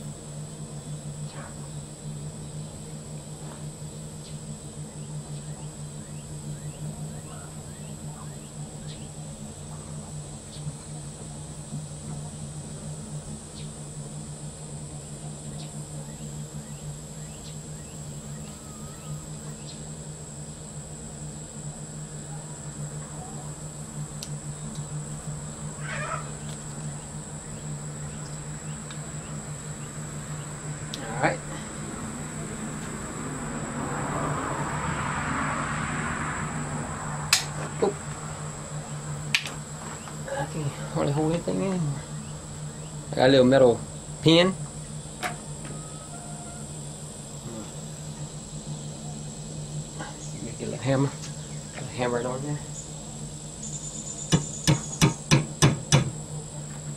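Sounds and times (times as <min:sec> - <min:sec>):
high-pitched insect drone: 0:00.0 - 0:56.9
steady low hum: 0:00.0 - 0:56.9.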